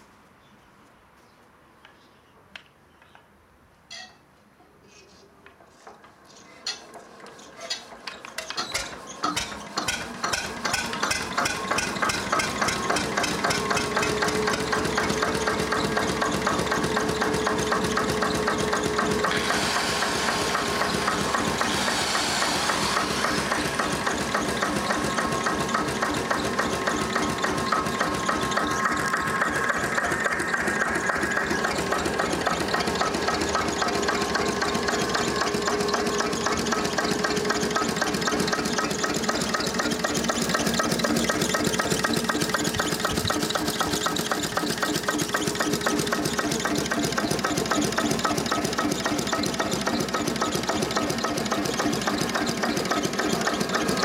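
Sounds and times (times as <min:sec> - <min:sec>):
engine hand-cranking clicks: 0:05.9 - 0:19.6, 0:20.2 - 0:21.9, 0:22.5 - 0:54.0
angle grinder whirring: 0:07.4 - 0:54.0
diesel engine running: 0:09.2 - 0:54.0.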